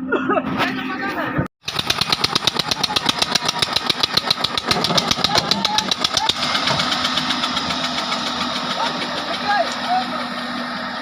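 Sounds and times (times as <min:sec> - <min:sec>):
diesel engine chugging: 0:01.6 - 0:11.0.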